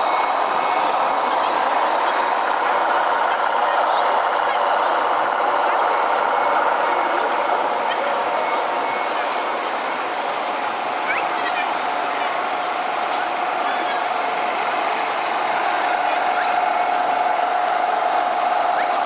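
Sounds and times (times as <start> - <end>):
radio-controlled truck running: 0.0 - 19.0.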